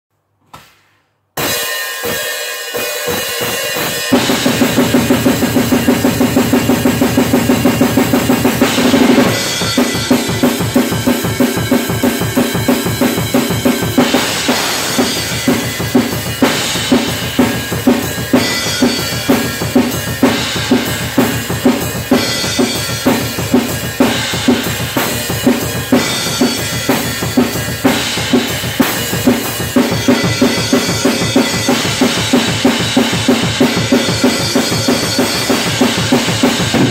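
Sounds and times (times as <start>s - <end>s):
drum kit played fast: 1.4s - 36.9s.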